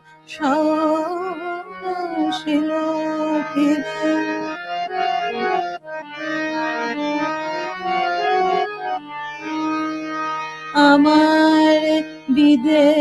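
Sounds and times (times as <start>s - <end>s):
harmonium playing: 0.0s - 13.0s.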